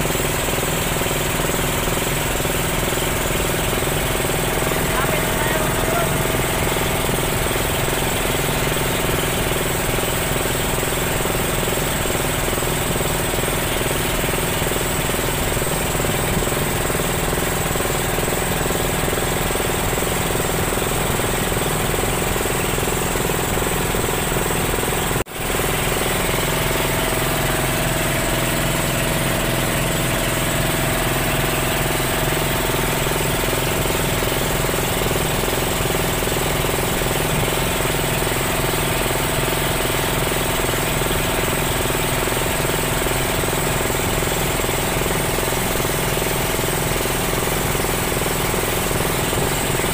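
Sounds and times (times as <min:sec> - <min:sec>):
motorboat engine chugging: 0:00.0 - 0:49.9.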